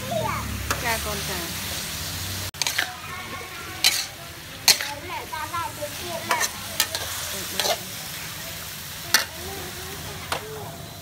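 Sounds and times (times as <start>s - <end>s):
food sizzling: 0.0s - 11.0s
metal spatula scraping wok: 0.5s - 11.0s.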